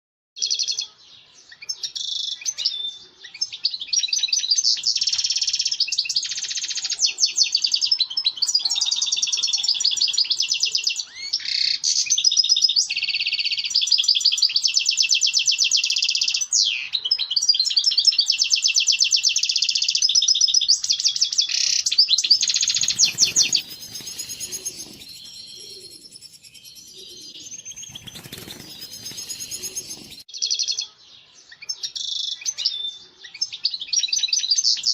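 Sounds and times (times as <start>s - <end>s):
bird twittering song: 0.4s - 34.9s.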